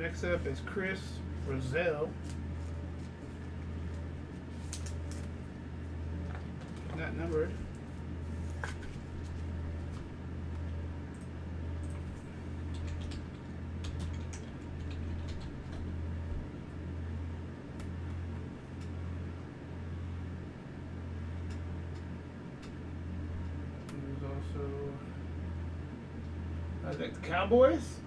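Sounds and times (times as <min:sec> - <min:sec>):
low pulsing hum: 0:00.0 - 0:28.0.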